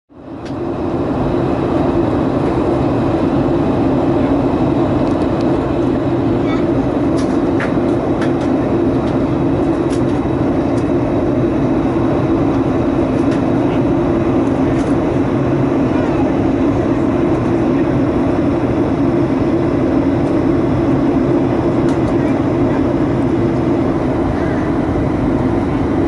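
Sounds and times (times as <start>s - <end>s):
airflow and engine drone: 0.1s - 26.0s.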